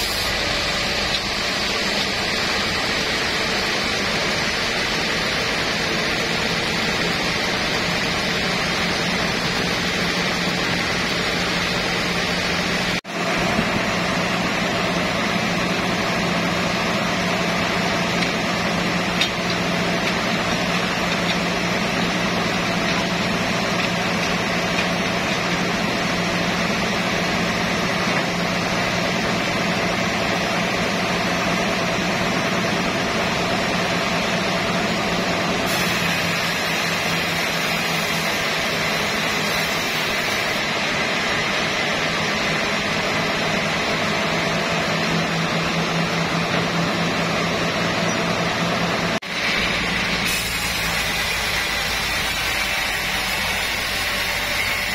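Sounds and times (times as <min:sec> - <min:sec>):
band saw droning: 0:00.0 - 0:54.9.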